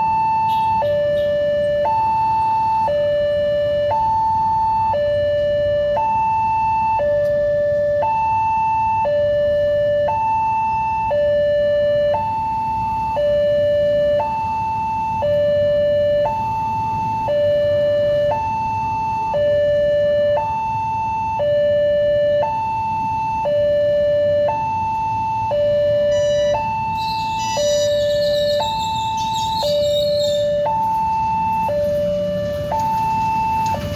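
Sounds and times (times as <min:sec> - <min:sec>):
level crossing alarm two-tone: 0:00.0 - 0:33.9.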